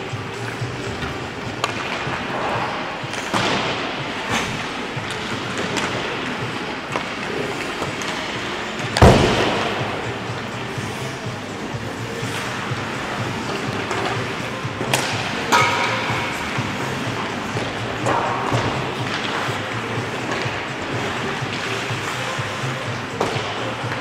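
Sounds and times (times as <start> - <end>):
pucks and sticks knocking: 0.0 - 24.0
puck banging against boards: 0.8 - 10.5, 12.5 - 22.4, 23.1 - 24.0.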